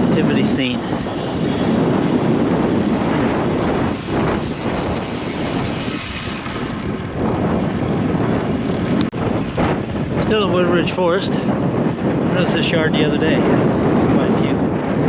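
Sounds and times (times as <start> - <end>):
gusty wind on microphone: 0.0 - 15.0.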